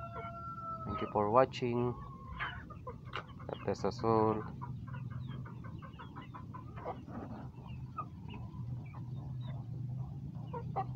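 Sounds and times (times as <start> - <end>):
hens clucking: 0.0 - 10.9.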